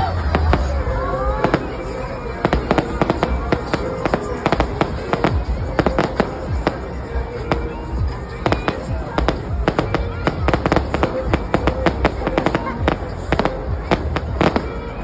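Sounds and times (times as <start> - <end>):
fireworks bangs and crackles: 0.2 - 14.8.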